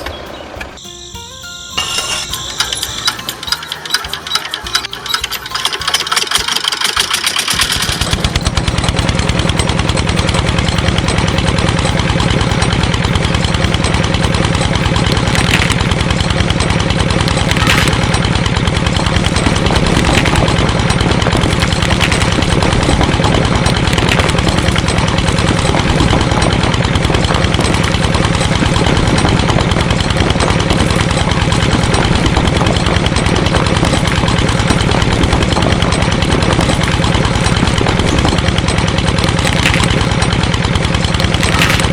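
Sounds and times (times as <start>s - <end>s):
small engine chugging: 0.0s - 41.9s.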